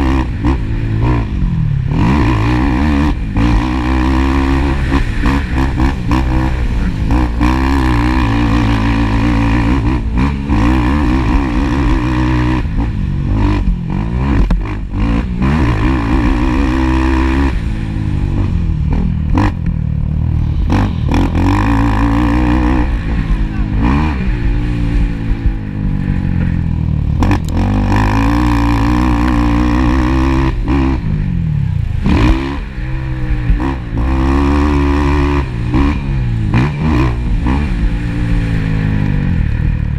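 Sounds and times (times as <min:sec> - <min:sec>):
atv engine revving hard: 0:00.0 - 0:39.9.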